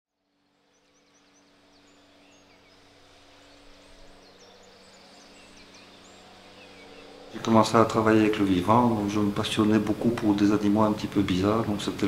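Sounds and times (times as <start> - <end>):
faint even hiss: 0.3 - 12.0
steady low hum: 0.3 - 12.0
small birds chirping: 0.4 - 12.0.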